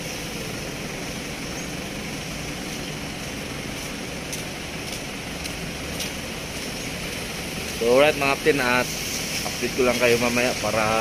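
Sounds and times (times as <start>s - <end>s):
traffic on wet road: 0.0s - 11.0s.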